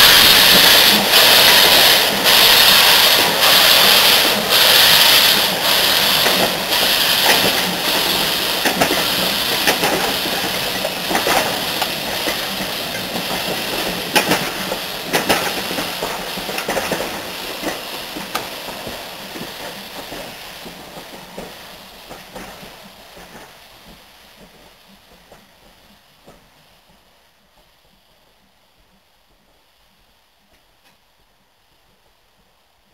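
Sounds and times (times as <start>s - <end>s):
train wheels clicking over rail joints: 0.0s - 32.7s
steam hiss: 0.0s - 32.9s.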